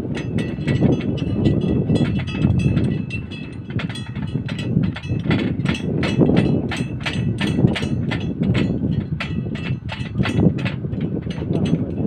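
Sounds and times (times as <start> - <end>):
metal clinks and taps: 0.1 - 12.0.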